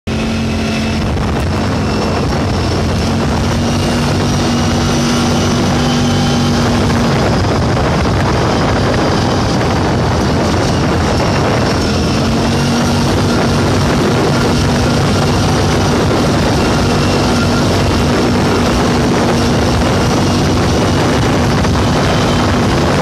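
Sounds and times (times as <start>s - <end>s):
vehicle engine running: 0.0s - 23.0s
wind noise on microphone: 0.1s - 23.0s.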